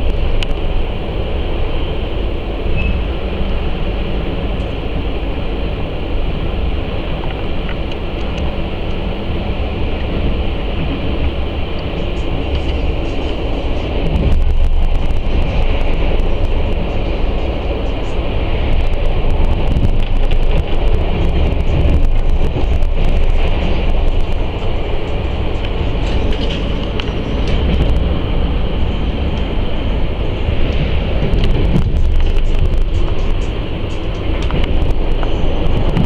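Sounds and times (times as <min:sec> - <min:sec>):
train rumbling inside carriage: 0:00.0 - 0:36.0.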